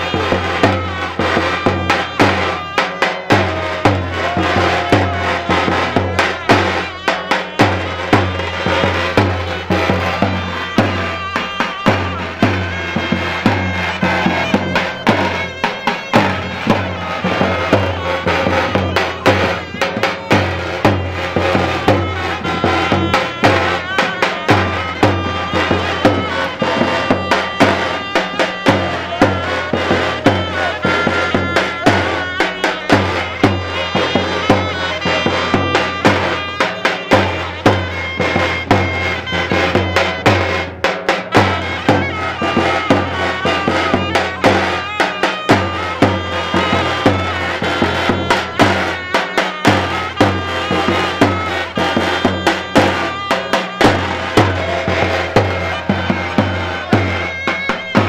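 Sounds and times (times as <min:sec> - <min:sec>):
large drum beat: 0:00.0 - 0:58.0
reedy shawm melody: 0:00.0 - 0:58.0.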